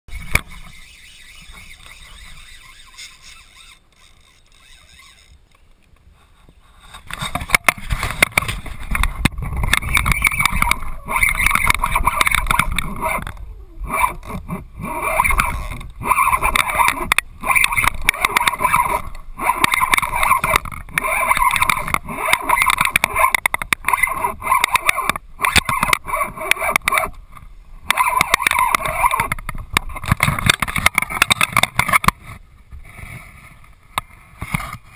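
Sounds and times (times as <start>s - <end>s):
fishing reel whirring: 0.1s - 5.6s, 7.2s - 27.2s, 27.9s - 32.0s
low rumble of handling and wind: 0.1s - 34.9s.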